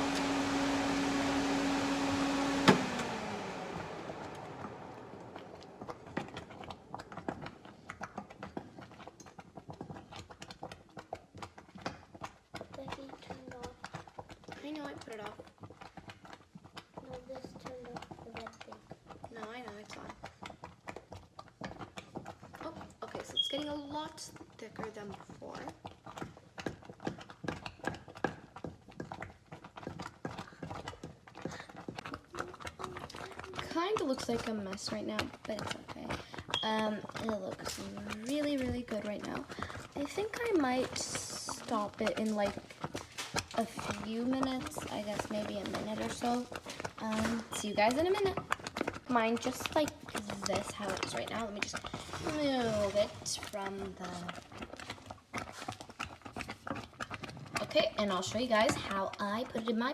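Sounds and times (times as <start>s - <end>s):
oatmeal bubbling in saucepan: 0.0s - 59.9s
pot of oats cooking with clicks: 0.0s - 59.9s.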